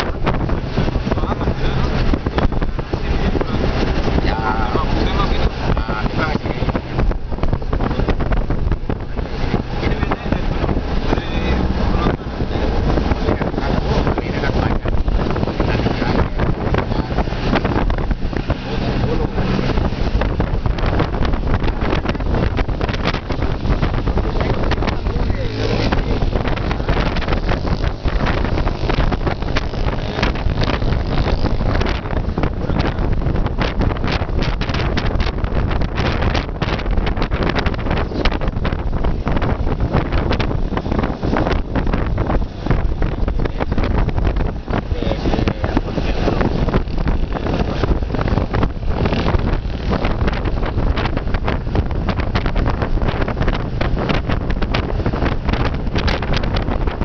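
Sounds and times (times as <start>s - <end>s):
road and engine rumble: 0.0s - 57.0s
wind buffeting microphone: 0.0s - 57.0s.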